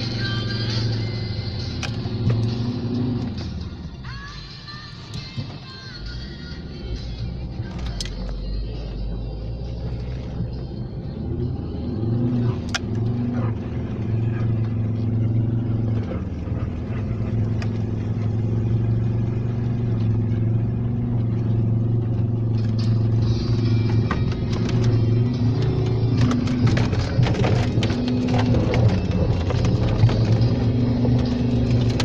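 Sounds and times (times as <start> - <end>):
car engine under load: 0.0 - 32.0.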